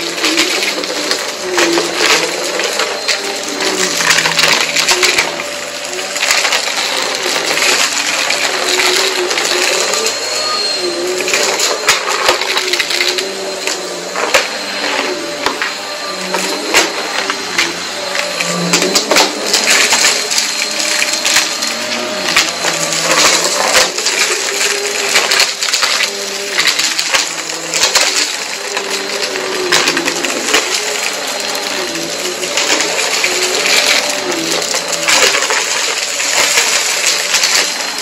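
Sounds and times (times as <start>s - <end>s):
vacuum cleaner motor hum: 0.0s - 38.0s.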